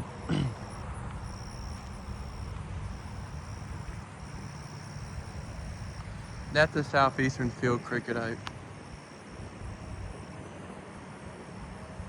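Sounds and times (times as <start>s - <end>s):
low background rumble: 0.0s - 10.5s
cricket trilling: 0.0s - 12.0s.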